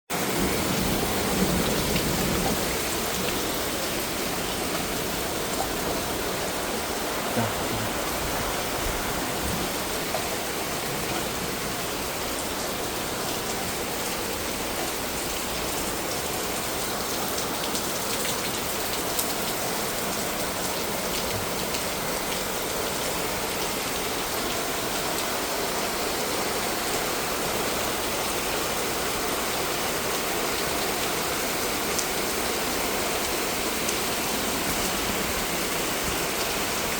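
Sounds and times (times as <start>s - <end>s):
raindrops striking surfaces: 0.1s - 36.9s
steady rain: 0.1s - 36.9s.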